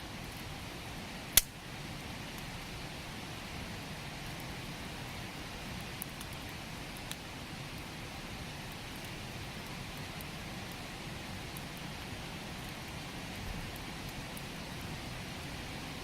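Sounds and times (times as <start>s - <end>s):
campfire crackling and popping: 0.1s - 16.0s.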